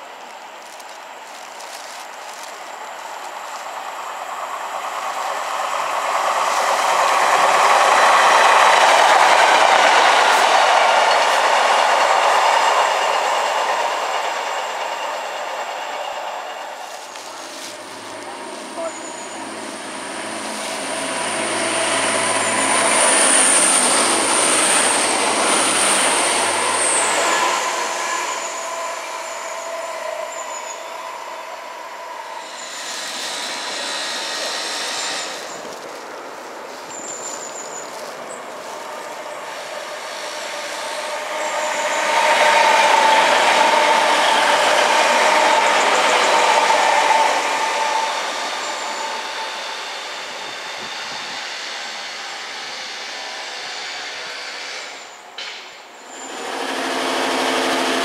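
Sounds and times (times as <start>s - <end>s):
diesel train passing: 0.0s - 58.0s
train passing with high whine: 0.0s - 58.0s.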